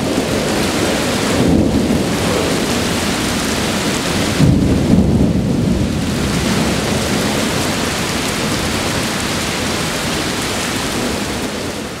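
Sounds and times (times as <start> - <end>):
heavy rain pouring: 0.0 - 12.0
low thunder rumble: 0.0 - 12.0.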